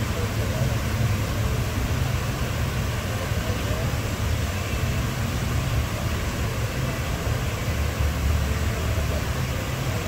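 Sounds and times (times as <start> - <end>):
constant hiss: 0.0 - 10.0.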